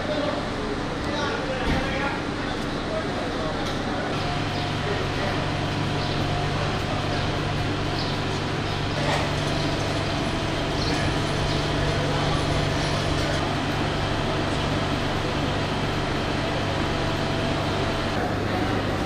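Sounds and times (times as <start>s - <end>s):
diesel trains idling hum: 0.0s - 19.0s
murmur of people: 0.0s - 19.0s.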